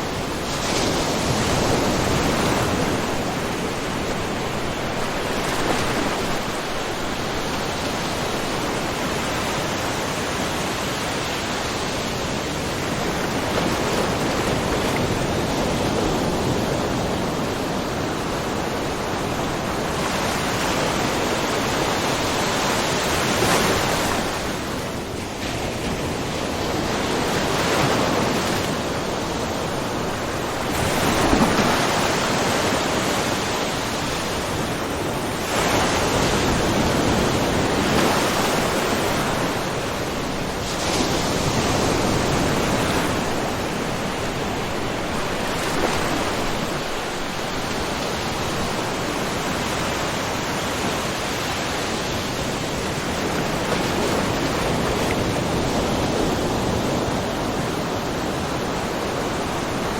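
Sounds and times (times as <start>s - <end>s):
waves washing over rocky shore: 0.0s - 59.9s.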